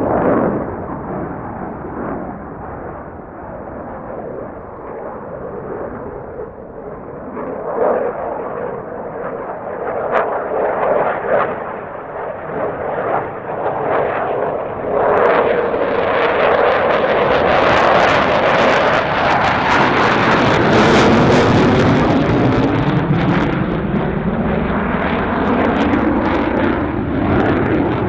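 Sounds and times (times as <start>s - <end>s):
fighter jet roaring: 0.0s - 28.0s.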